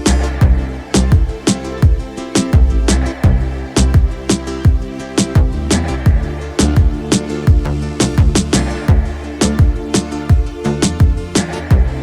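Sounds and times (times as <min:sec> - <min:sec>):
drum hits: 0:00.0 - 0:12.0
upbeat instrumental music: 0:00.0 - 0:12.0.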